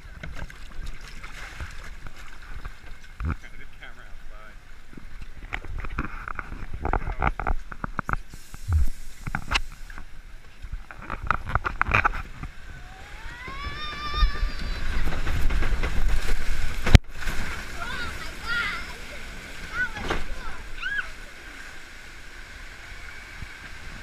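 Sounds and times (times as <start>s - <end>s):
flume boat rumbling and clattering: 0.0s - 24.0s.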